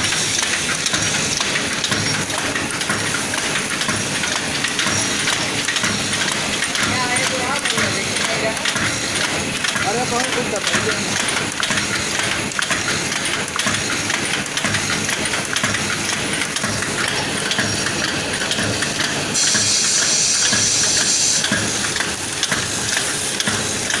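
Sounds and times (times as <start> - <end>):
packing machine clattering: 0.0 - 19.6, 20.2 - 24.0.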